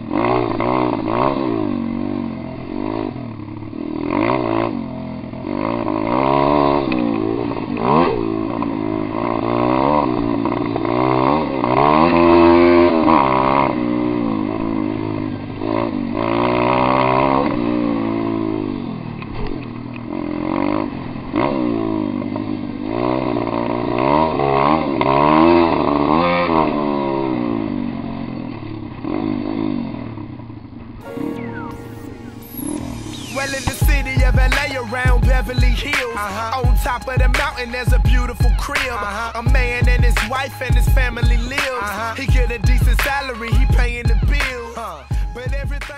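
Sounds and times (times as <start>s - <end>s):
motorbike engine revving: 0.0s - 45.7s.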